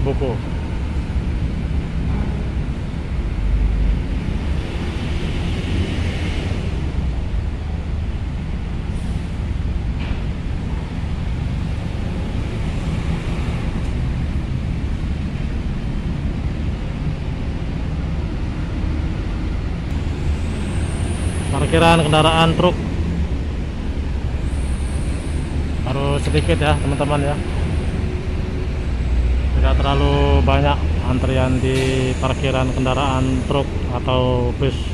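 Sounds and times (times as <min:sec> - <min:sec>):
vehicles rumbling off ramp: 0:00.0 - 0:34.9.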